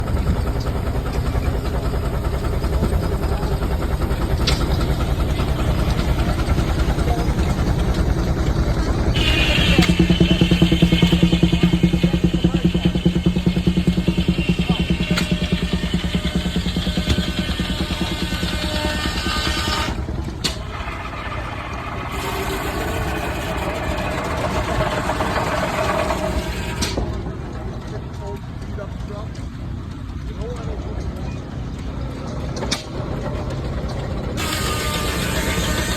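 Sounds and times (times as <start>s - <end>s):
steam engine running: 0.0s - 35.9s.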